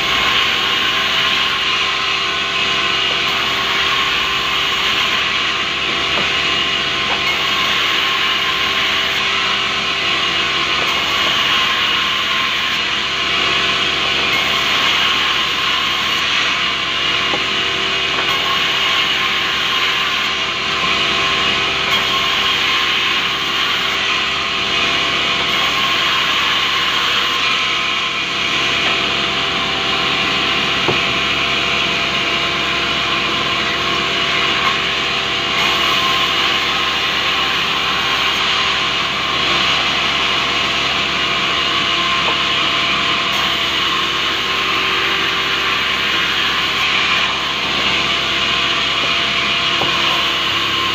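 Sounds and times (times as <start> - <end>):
band saw cutting wood: 0.0 - 50.9.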